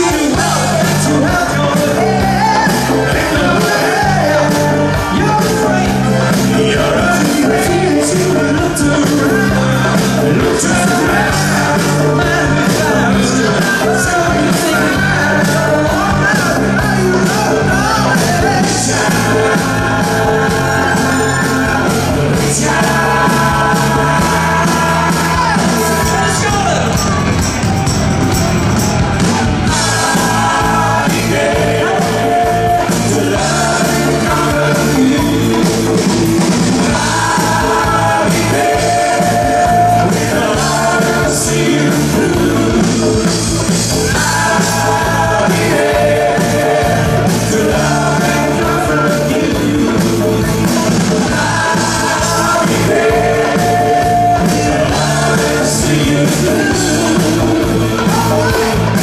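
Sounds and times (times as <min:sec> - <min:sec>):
people singing: 0:00.0 - 0:27.2, 0:28.4 - 0:59.0
bass guitar: 0:00.0 - 0:59.0
drums: 0:00.0 - 0:59.0
electric guitar: 0:00.0 - 0:59.0.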